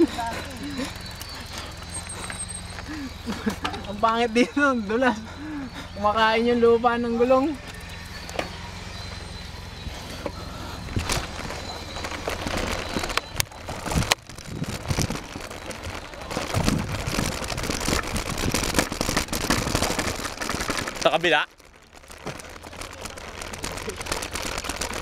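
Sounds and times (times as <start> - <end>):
bike rattling over bumps: 0.0 - 25.0
bike tyres crunching on dirt: 0.0 - 25.0.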